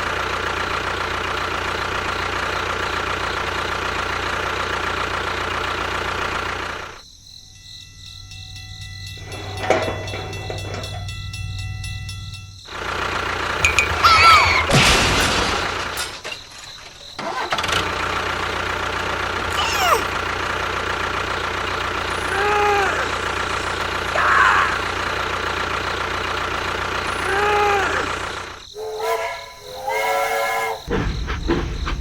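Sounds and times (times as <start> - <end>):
small engine running: 0.0 - 7.0, 8.4 - 16.0, 17.0 - 28.7.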